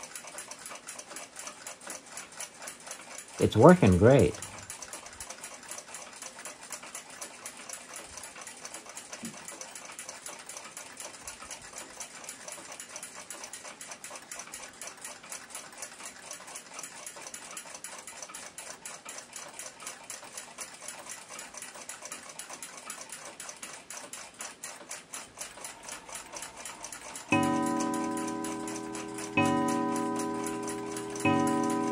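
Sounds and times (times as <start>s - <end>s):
clock ticking: 0.0s - 20.6s, 21.2s - 31.9s.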